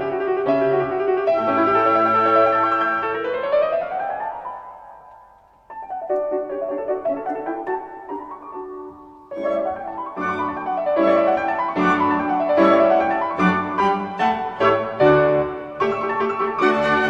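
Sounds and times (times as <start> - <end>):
classical piano music on speakers: 0.0 - 17.0.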